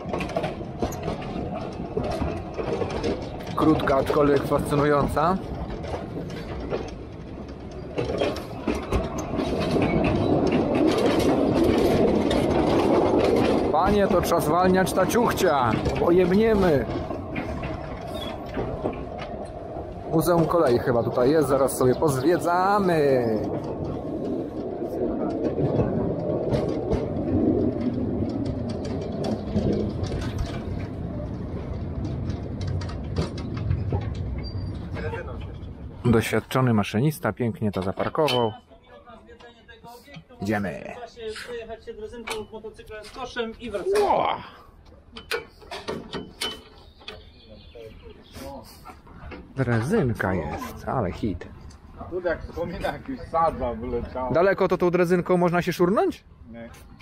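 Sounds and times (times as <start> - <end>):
train carriages rattling on track: 0.0 - 57.0
wheels and couplings clanking: 0.0 - 57.0.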